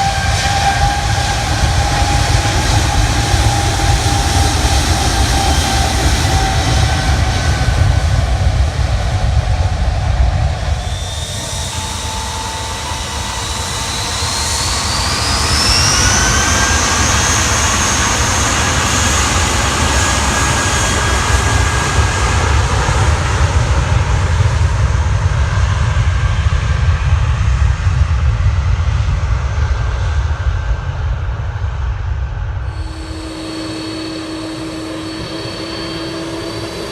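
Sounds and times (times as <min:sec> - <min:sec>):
jet engines whining and rumbling: 0:00.0 - 0:36.9.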